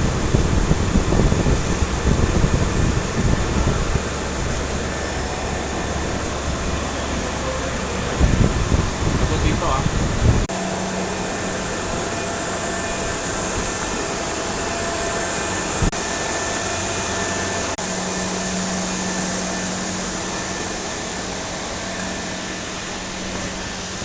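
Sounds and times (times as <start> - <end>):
blower or fan running: 0.0 - 24.0.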